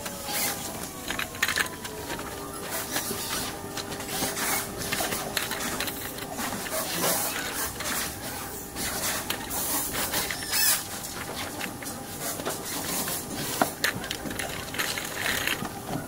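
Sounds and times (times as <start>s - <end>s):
wagon frame rubbing and scraping: 0.0s - 16.0s.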